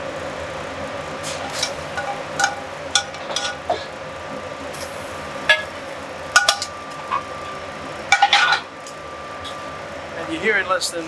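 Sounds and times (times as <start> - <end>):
steady background hiss: 1.4 - 11.0.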